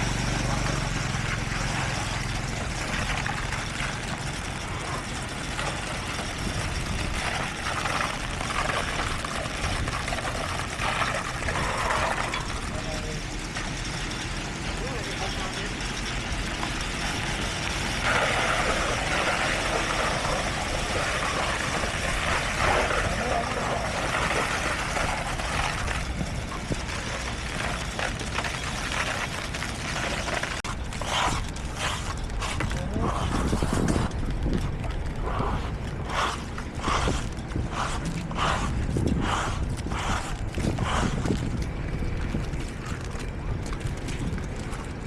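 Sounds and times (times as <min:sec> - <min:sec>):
heavy machinery rumbling: 0:00.0 - 0:45.0.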